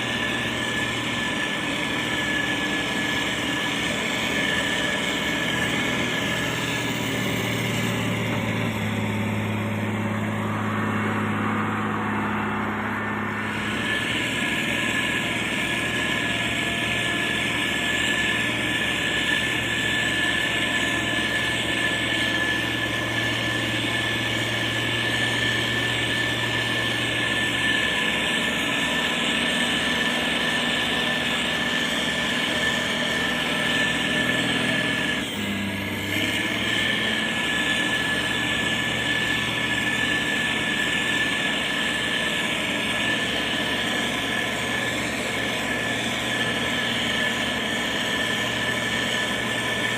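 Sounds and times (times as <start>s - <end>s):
high whine: 0.0s - 49.9s
motor grader diesel engine: 0.0s - 49.9s.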